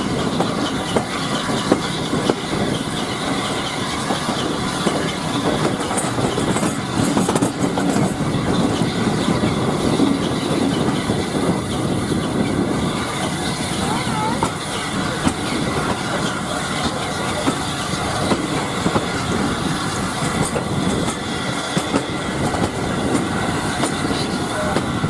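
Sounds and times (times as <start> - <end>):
train wheels rumbling on rail: 0.0 - 25.0
wheels clicking over rail joints: 0.0 - 25.0.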